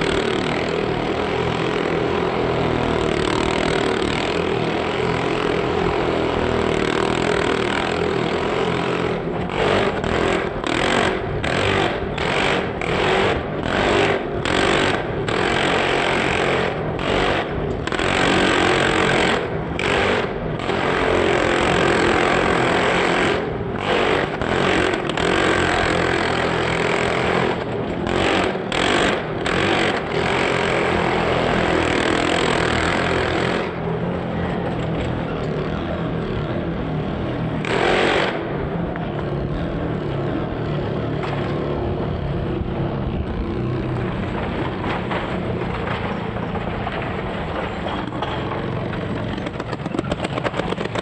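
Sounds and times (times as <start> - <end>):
motorcycle engine at high revs: 0.0 - 51.0.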